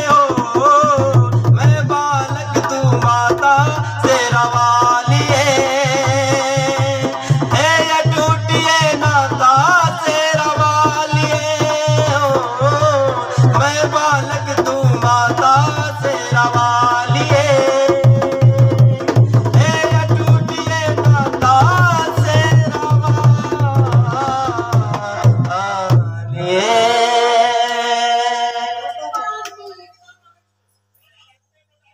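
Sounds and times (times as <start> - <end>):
steady drum beat: 0.0 - 26.3
man singing devotional song: 0.0 - 29.9.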